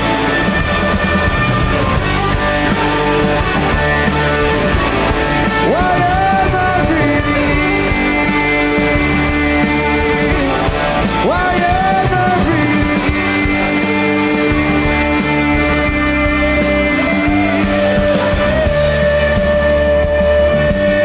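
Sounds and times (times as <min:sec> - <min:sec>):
held lead guitar notes: 0:00.0 - 0:21.0
rock band playing: 0:00.0 - 0:21.0.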